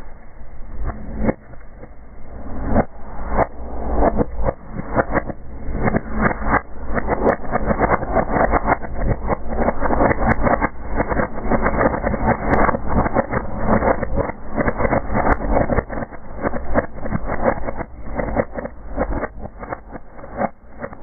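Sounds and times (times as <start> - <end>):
flames rushing: 4.1 - 21.0.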